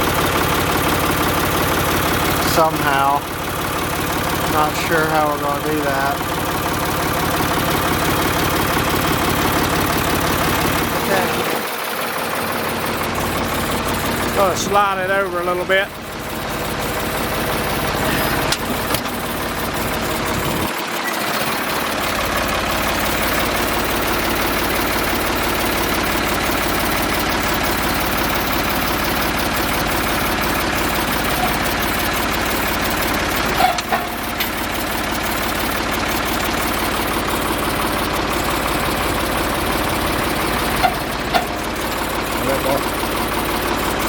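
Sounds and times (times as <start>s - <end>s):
tractor engine rumbling: 0.0s - 44.0s.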